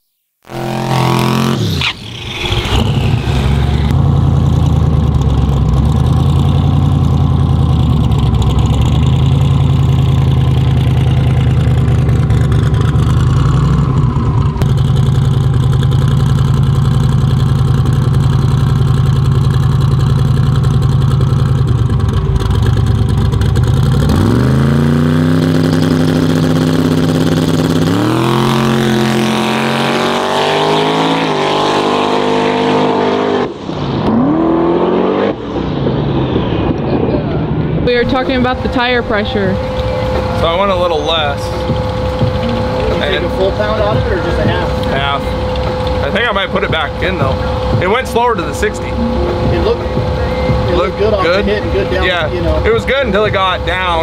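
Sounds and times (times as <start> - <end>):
drag car engine revving: 0.4 - 54.0.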